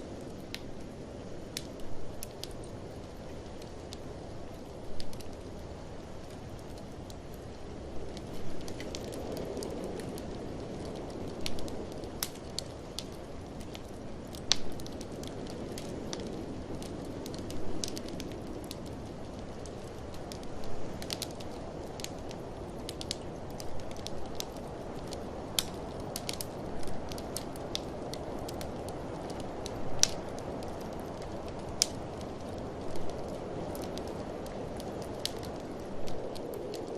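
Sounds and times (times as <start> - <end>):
blizzard wind: 0.0 - 36.9
wood fire crackling: 0.0 - 36.9.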